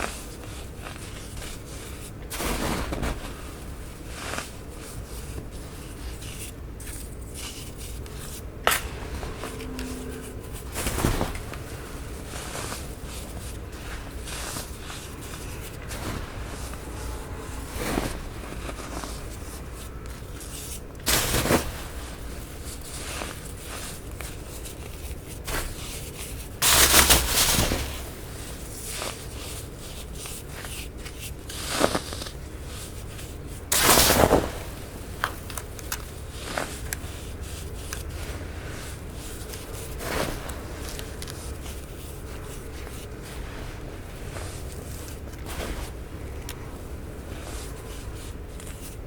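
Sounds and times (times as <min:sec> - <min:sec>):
baking soda crackling and crunching: 0:00.0 - 0:49.0.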